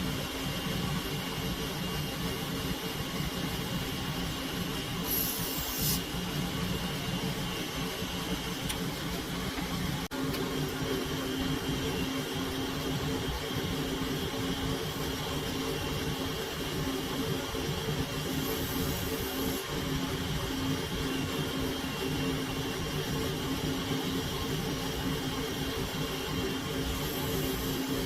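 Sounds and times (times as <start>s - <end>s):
electric machinery humming: 0.0s - 28.0s.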